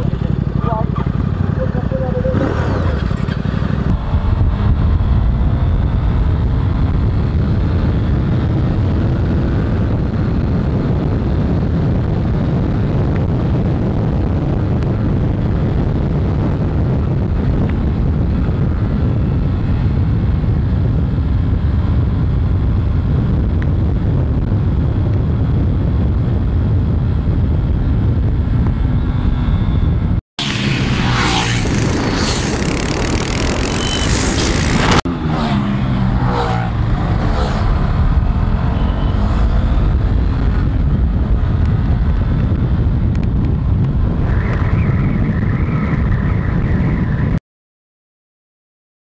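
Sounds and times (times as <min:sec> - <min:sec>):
motorcycle engine running: 0:00.0 - 0:45.1
wind rush on microphone: 0:00.0 - 0:47.4.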